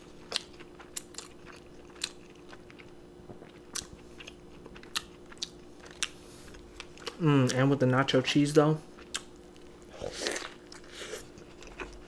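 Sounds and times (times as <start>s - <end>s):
close chewing with mouth smacks: 0.0s - 7.6s, 9.0s - 12.0s
faint steady hum: 0.0s - 12.0s.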